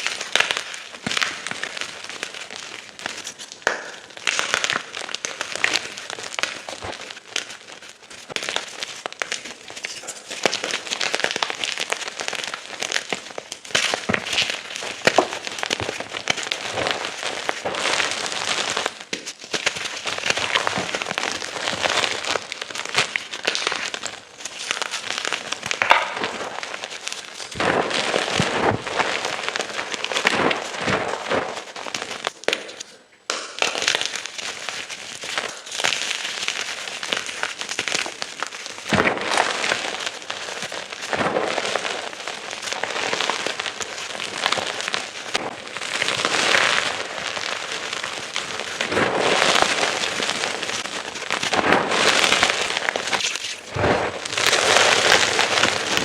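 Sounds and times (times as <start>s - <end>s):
chalk crunching and crumbling: 0.0s - 32.9s, 33.7s - 56.0s.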